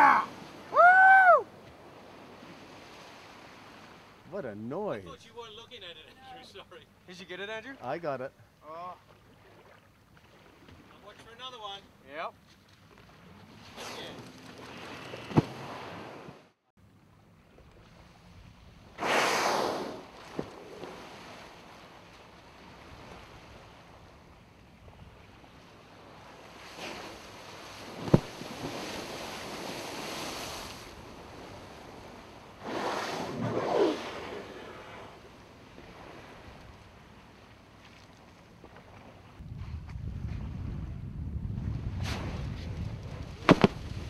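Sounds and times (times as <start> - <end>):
wind and sea noise: 0.0 - 44.0.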